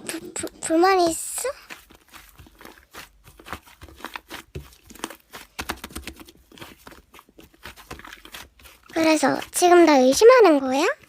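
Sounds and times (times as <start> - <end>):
slime crackling and popping: 0.1 - 11.0.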